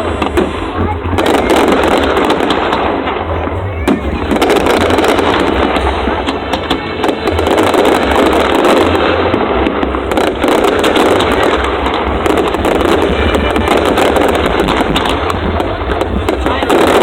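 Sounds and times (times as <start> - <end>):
fireworks crackling and popping: 0.0 - 17.0
low rumble: 0.0 - 17.0.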